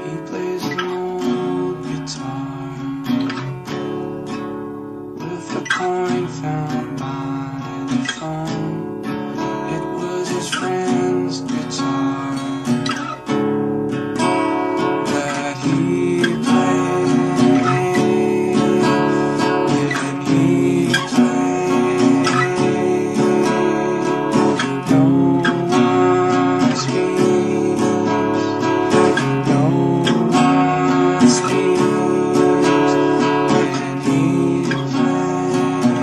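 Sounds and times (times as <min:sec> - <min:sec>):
rock music with strummed guitar: 0:00.0 - 0:36.0.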